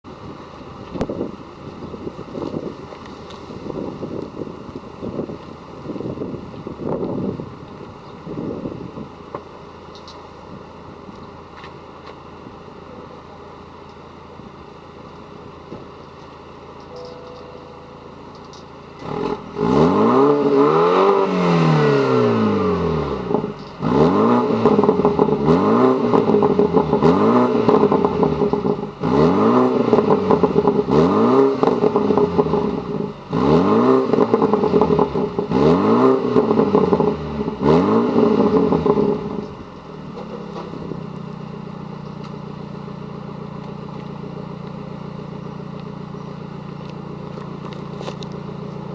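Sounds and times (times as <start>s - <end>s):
car engine idling and revving: 0.0s - 48.9s
exhaust crackles and pops: 0.3s - 17.5s, 18.2s - 48.9s.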